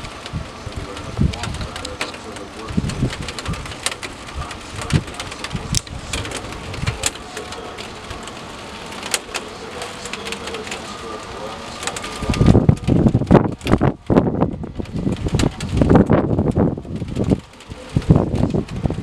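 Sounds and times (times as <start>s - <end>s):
low buffeting rumble: 0.0s - 19.0s
rain hiss: 0.0s - 19.0s.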